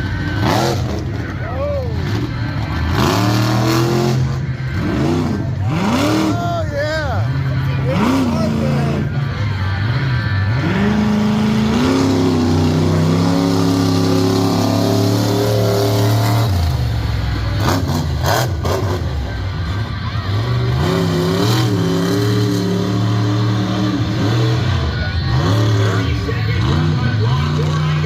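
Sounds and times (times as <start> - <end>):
large vehicle engine revving: 0.0 - 28.0.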